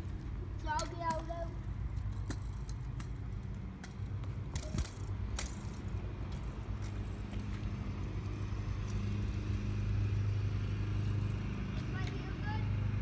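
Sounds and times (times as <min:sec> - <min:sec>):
low mechanical hum: 0:00.0 - 0:13.0
scooter wheels rolling on concrete: 0:00.0 - 0:13.0.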